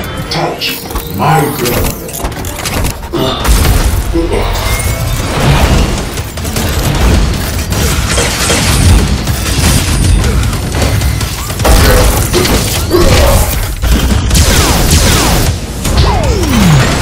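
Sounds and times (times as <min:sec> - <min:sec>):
music: 0:00.0 - 0:13.9.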